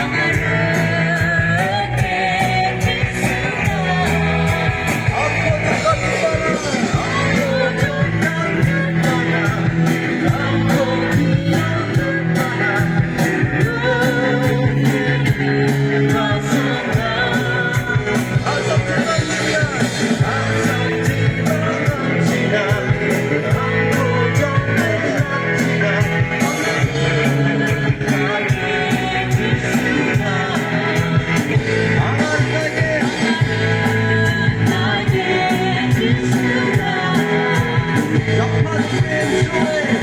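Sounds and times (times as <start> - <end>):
bass guitar: 0.0 - 40.0
drum beat: 0.0 - 40.0
guitar: 0.0 - 40.0
person singing: 0.0 - 40.0.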